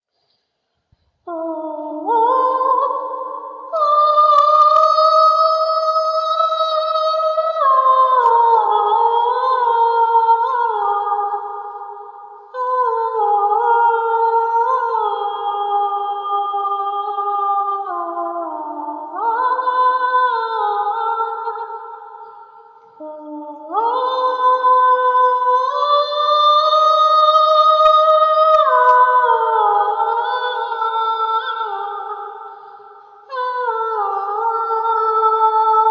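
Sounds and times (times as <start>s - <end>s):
wordless a cappella vocal harmony: 1.1s - 35.9s.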